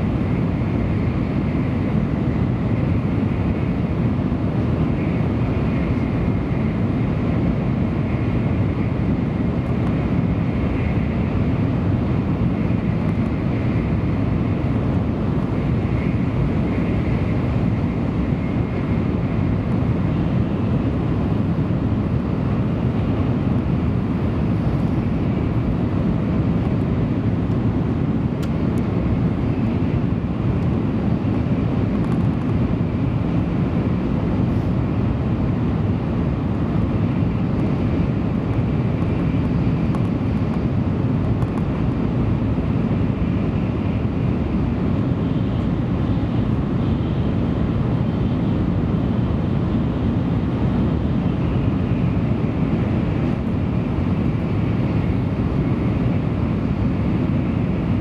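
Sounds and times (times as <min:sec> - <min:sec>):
train rumble from inside car: 0:00.0 - 0:58.0.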